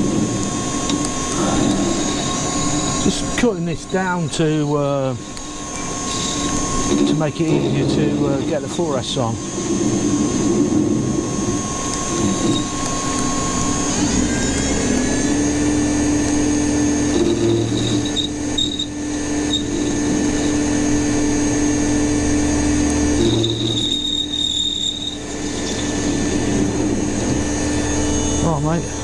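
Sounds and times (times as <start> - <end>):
power tool cutting metal: 0.0 - 29.0.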